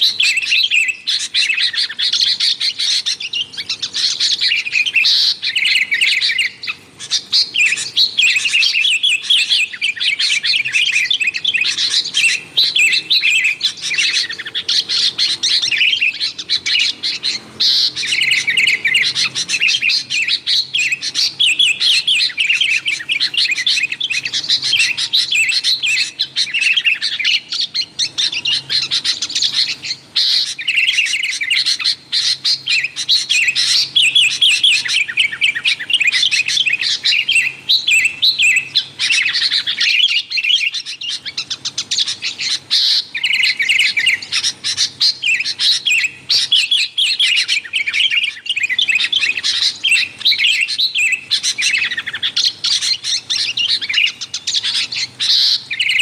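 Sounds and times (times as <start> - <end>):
bulbul chattering: 0.0 - 56.0.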